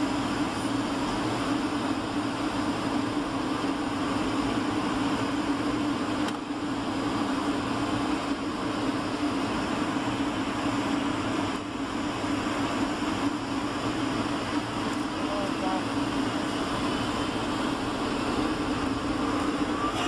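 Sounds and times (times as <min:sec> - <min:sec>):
airliner cabin engine and airflow rush: 0:00.0 - 0:20.0.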